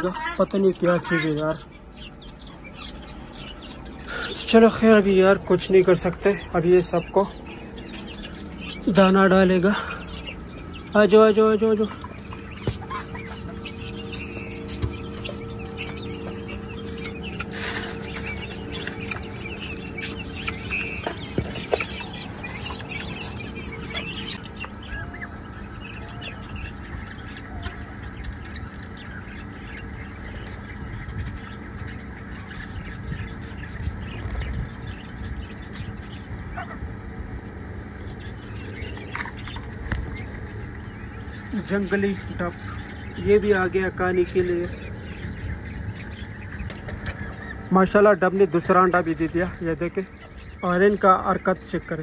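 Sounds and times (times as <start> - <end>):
young guinea fowl chirping: 0.0 - 52.0.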